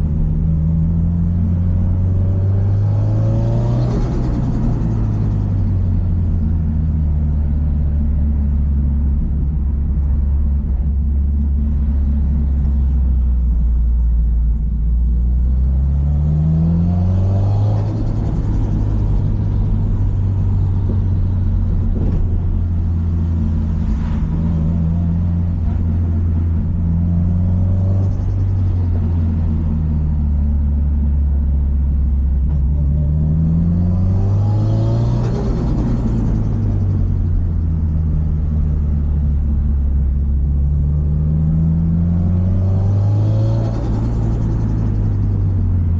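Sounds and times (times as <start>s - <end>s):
car engine rumbling: 0.0s - 45.9s.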